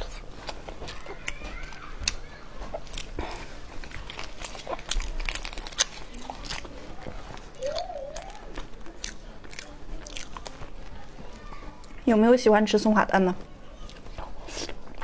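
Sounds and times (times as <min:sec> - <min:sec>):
person chewing: 0:00.0 - 0:11.0, 0:13.8 - 0:15.0.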